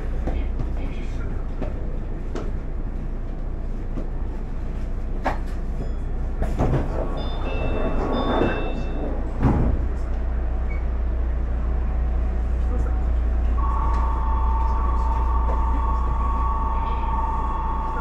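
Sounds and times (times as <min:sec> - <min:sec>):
low train hum: 0:00.0 - 0:18.0.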